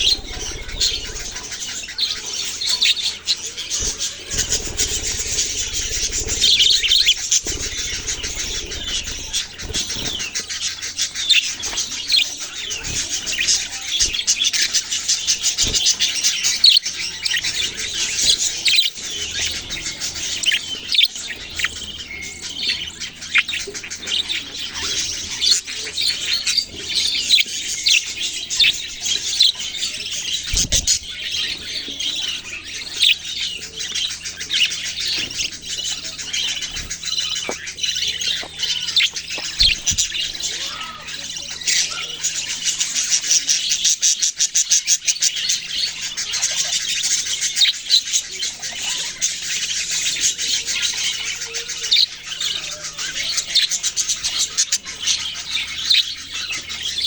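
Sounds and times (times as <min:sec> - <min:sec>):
parrots chirping and chattering: 0:00.0 - 0:57.0.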